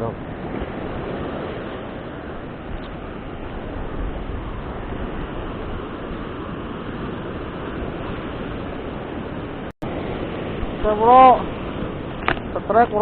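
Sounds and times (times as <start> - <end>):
ocean surf breaking: 0.0 - 13.0
wind rumble on microphone: 0.0 - 13.0.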